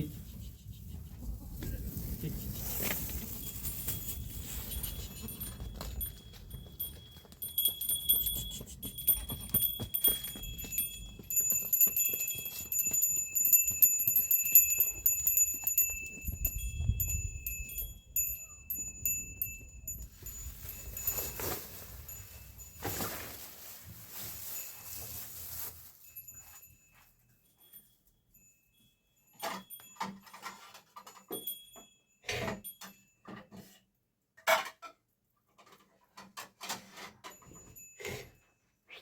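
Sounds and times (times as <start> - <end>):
goat bells jingling: 1.8 - 33.4, 37.2 - 38.6.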